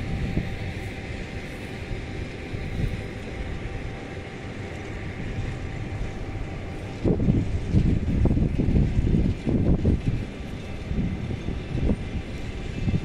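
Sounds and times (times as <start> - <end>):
distant train rumble: 0.0 - 13.0
wind buffeting microphone: 0.0 - 13.0.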